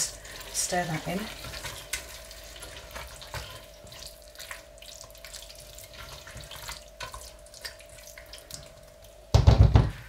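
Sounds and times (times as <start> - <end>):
spatula stirring wet curry: 0.2 - 8.3.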